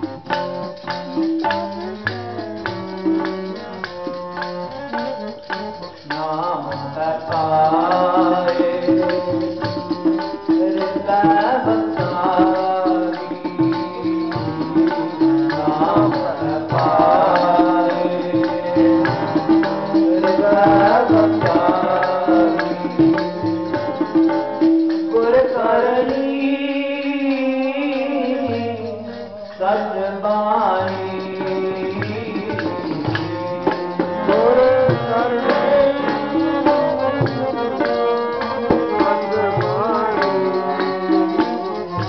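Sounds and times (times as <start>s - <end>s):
harmonium drone: 0.0s - 42.0s
tabla strokes: 0.0s - 42.0s
person chanting: 1.5s - 24.2s, 25.1s - 42.0s.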